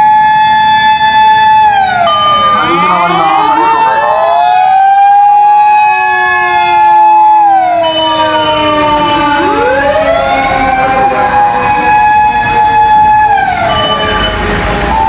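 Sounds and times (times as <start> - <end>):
mechanical motor siren wailing: 0.0 - 15.0
steady siren tones: 0.0 - 15.0.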